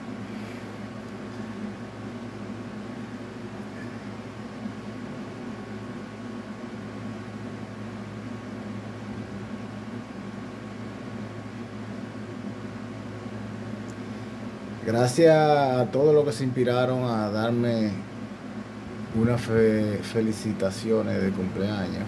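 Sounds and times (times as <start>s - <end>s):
constant hiss: 0.0s - 22.0s.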